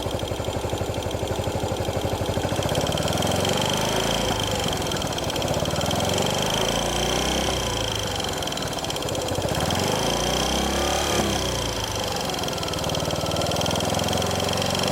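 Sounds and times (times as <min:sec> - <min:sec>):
motorcycle engine idling: 0:00.0 - 0:14.9
noise from cylinder head: 0:00.0 - 0:14.9.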